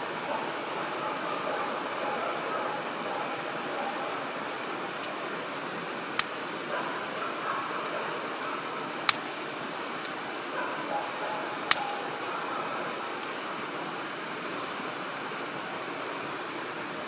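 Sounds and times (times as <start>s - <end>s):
burning wood crackling and popping: 0.0s - 17.0s.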